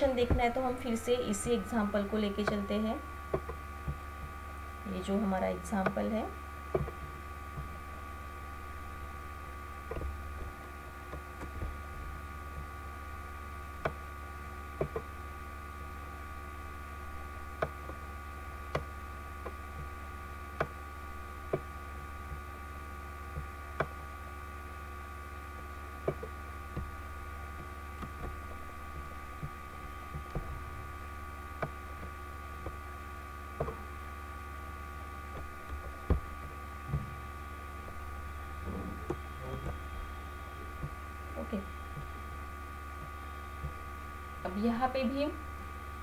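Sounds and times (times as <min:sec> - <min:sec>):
electrical hum: 0:00.0 - 0:46.0.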